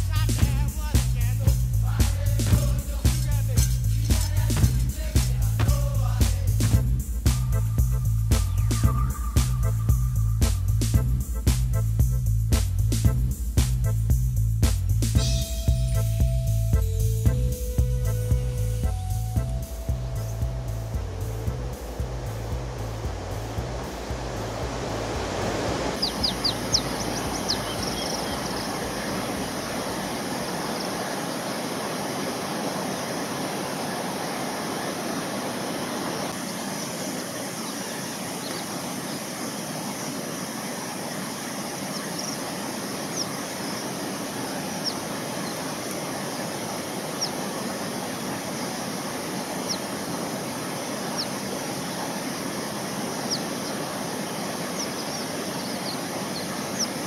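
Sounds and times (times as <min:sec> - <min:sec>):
outdoor background noise: 0:00.0 - 0:57.0.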